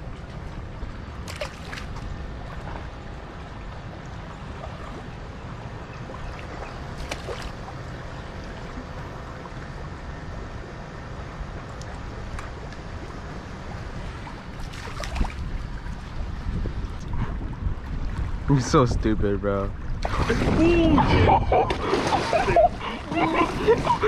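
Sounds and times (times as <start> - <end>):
water lapping against seawall: 0.0 - 18.9, 19.7 - 24.0
wind rumble on microphone: 0.0 - 24.0.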